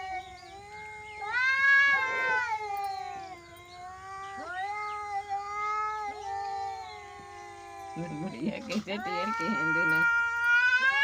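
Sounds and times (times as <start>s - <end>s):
cat yowling angrily: 0.0s - 11.0s.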